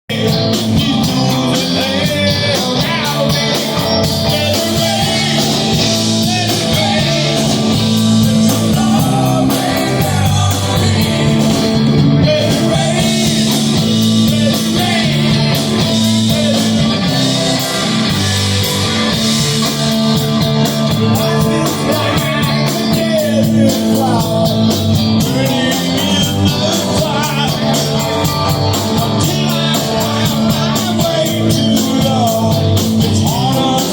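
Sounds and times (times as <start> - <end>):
rock band playing: 0.1 - 33.9.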